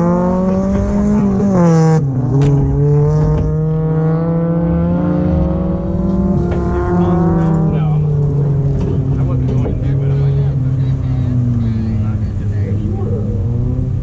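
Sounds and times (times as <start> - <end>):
rally car engine revving hard: 0.0 - 14.0.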